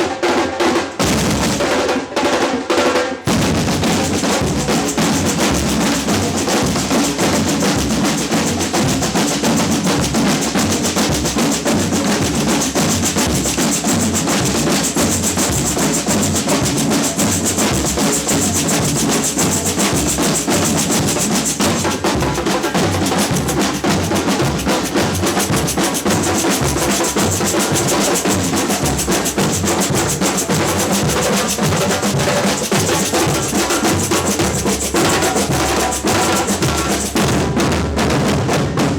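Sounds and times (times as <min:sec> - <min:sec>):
samba percussion band: 0:00.0 - 0:38.9
snare drums: 0:00.0 - 0:38.9.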